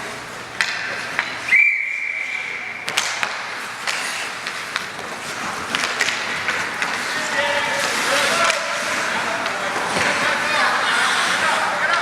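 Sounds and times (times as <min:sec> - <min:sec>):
hockey sticks clacking on ice: 0:00.6 - 0:01.5, 0:02.8 - 0:12.0.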